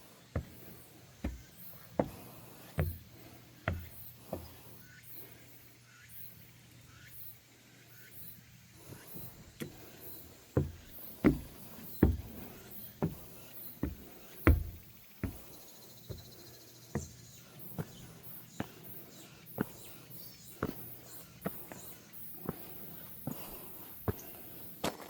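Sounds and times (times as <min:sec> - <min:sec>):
footsteps on wooden deck: 0:00.0 - 0:05.0, 0:08.8 - 0:25.0.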